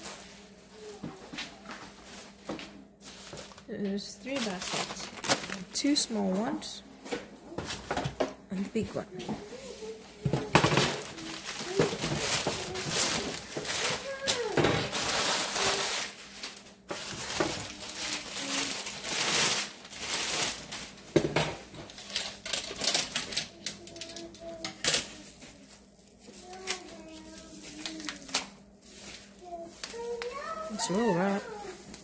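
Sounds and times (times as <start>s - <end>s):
packing paper rustling: 0.0s - 6.7s, 9.4s - 32.0s.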